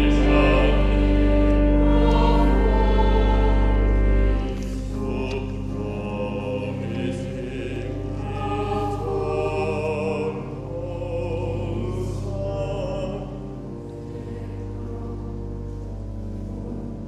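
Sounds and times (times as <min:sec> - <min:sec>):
choir singing slowly: 0:00.0 - 0:17.0
pipe organ low notes: 0:00.0 - 0:17.0.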